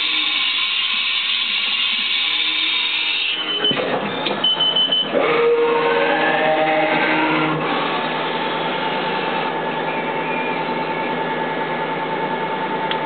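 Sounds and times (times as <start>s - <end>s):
mill spindle whine: 0.0s - 13.0s.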